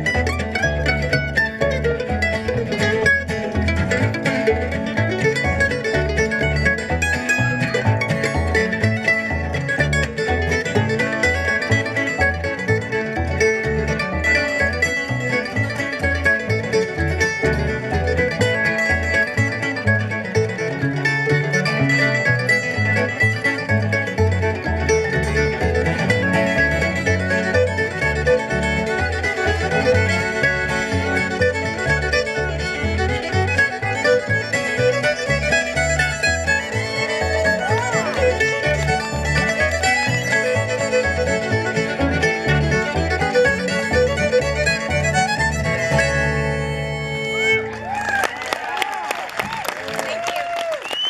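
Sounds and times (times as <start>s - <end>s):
acoustic guitar: 0.0s - 47.9s
upright bass plucking: 0.0s - 48.0s
mandolin: 0.0s - 48.7s
fiddle: 0.0s - 51.0s.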